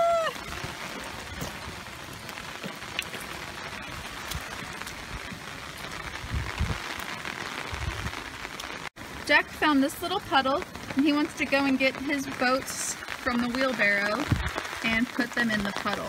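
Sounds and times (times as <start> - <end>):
rain on pavement and grass: 0.0 - 16.0.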